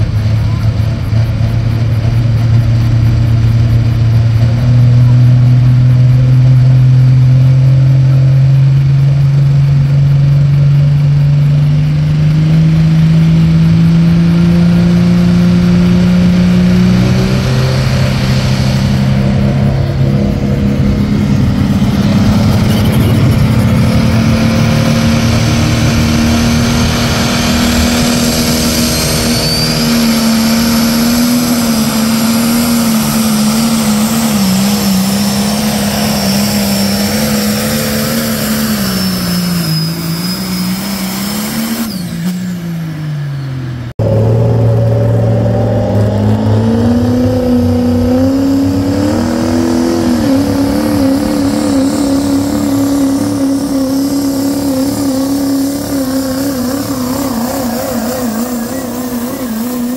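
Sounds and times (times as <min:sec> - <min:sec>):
pickup truck engine running hard: 0:00.0 - 0:59.9
tractor engine running hard: 0:00.0 - 0:59.9.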